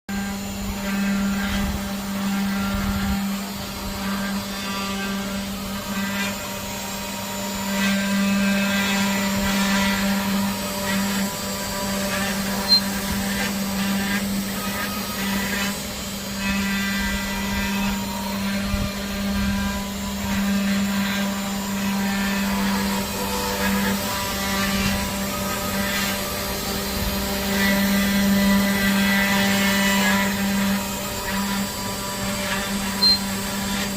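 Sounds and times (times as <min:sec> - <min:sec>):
high machine whines: 0:00.1 - 0:33.9
machine spindle hum: 0:00.1 - 0:33.9.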